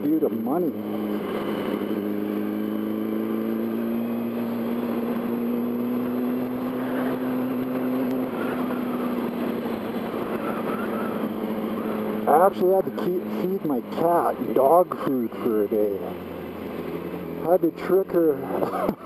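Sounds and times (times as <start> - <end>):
motorcycle engine at low revs: 0.0 - 19.0
wind and road noise: 0.0 - 19.0.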